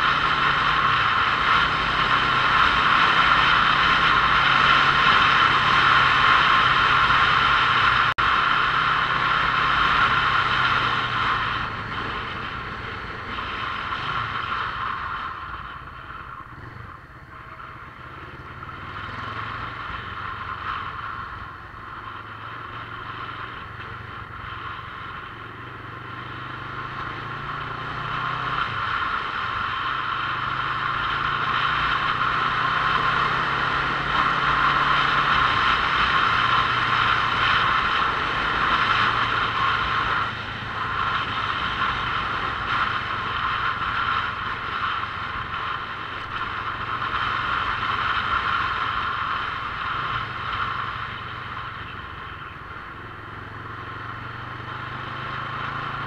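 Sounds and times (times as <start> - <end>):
motorcycle engine: 0.0 - 56.0
steady rushing noise: 0.0 - 56.0.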